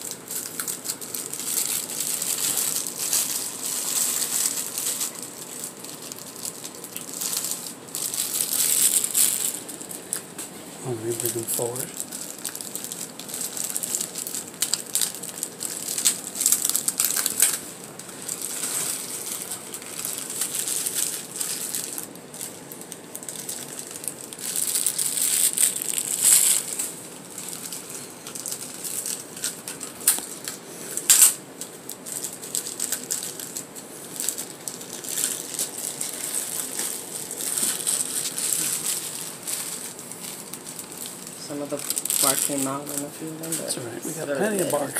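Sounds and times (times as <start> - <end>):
plastic bags crinkling: 0.0 - 44.9.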